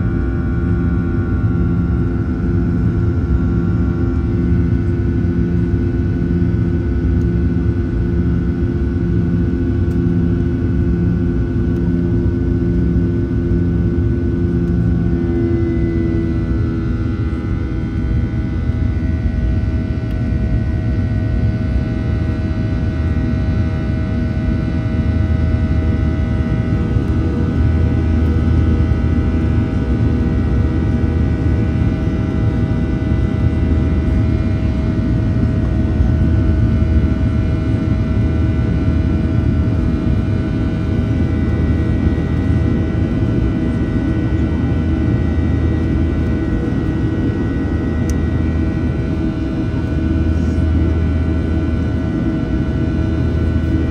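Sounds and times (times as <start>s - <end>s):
airplane cabin engine rumble: 0.0s - 53.9s
steady engine whine: 0.0s - 53.9s.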